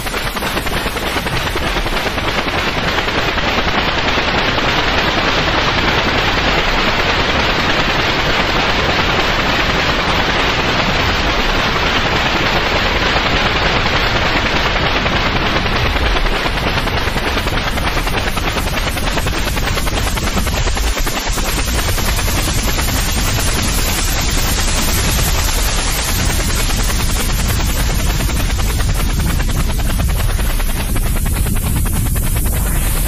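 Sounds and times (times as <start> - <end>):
white noise hiss: 4.8 - 33.0.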